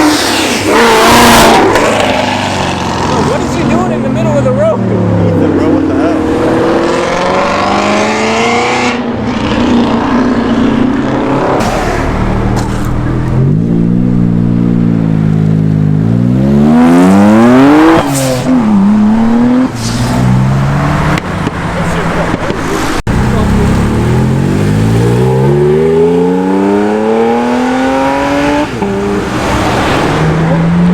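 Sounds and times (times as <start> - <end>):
car engine accelerating: 0.0 - 30.9.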